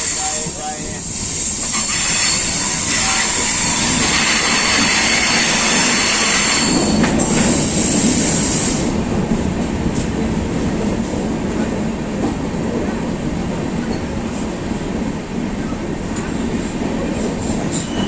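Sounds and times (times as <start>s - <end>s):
train wheels rumbling and rattling: 0.0s - 18.0s.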